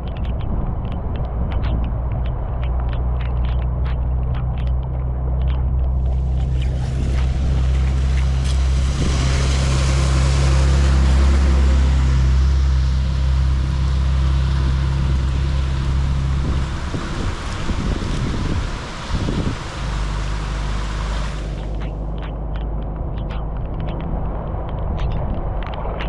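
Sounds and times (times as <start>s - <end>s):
rumbling: 0.0s - 26.0s
rushing water: 0.0s - 26.0s.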